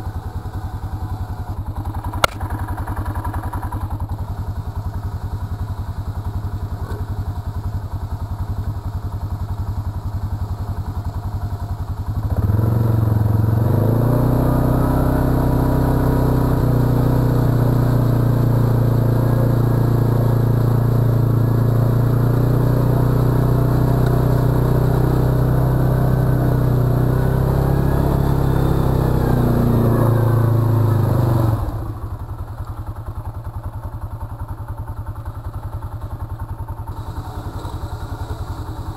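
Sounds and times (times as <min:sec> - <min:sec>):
atv engine revving: 0:00.0 - 0:07.5, 0:10.0 - 0:33.5, 0:35.6 - 0:38.9.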